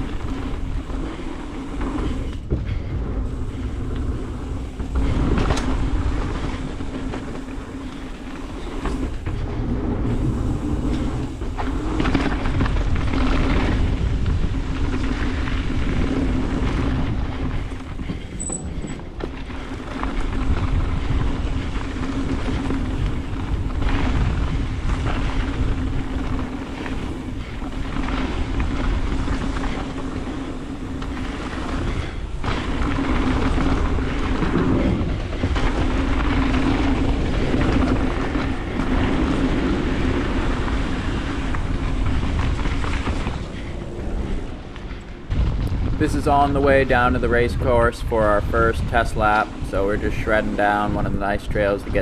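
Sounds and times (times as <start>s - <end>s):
bike rattling over bumps: 0.0s - 52.0s
bike tyres on dirt: 0.0s - 52.0s
wind buffeting microphone: 0.0s - 52.0s.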